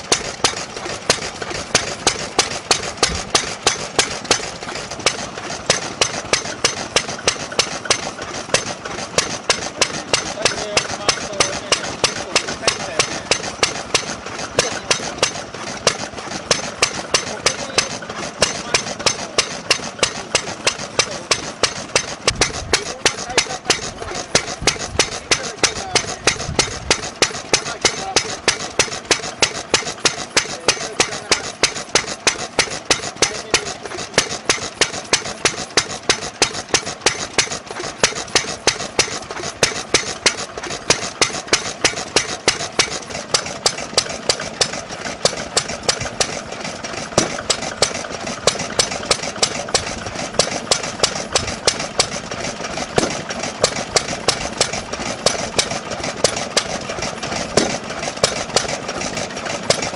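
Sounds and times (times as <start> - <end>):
stationary engine running: 0.0 - 59.9.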